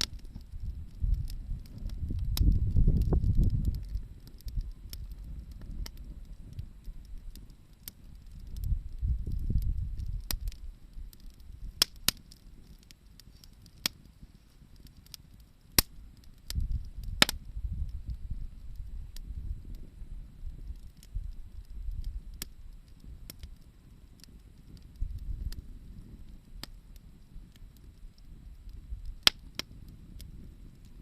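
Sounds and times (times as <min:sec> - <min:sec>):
sharp pops and snaps: 0:00.0 - 0:14.2, 0:14.8 - 0:17.9, 0:20.6 - 0:25.6, 0:27.5 - 0:31.0
campfire crackling: 0:00.0 - 0:31.0.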